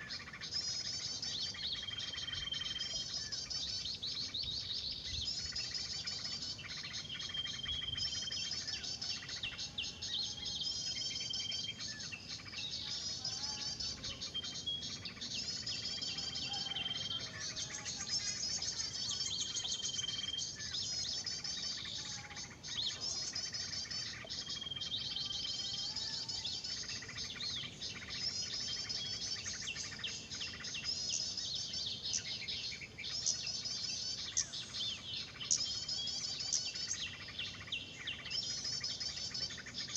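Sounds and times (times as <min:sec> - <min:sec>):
songbird alarm chatter from speaker: 0:00.0 - 0:39.9.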